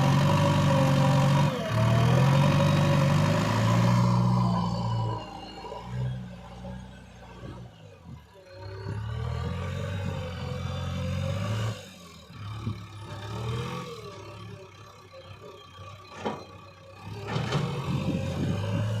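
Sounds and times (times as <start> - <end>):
heavy diesel engine working: 0.0 - 19.0.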